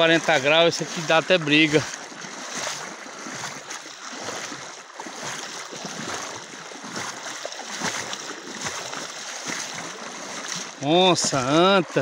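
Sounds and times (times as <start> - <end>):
river water running and splashing: 0.0 - 12.0.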